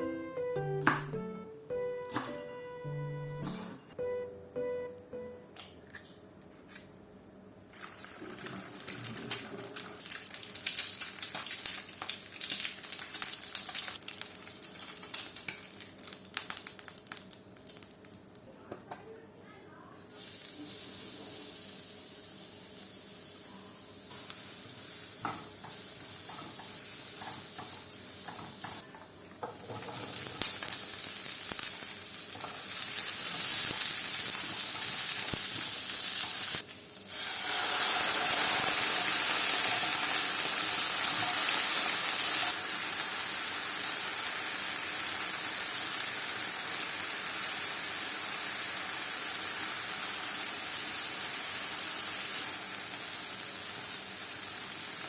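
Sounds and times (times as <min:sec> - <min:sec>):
food sizzling in a pan: 0:07.9 - 0:18.2, 0:20.1 - 0:55.0.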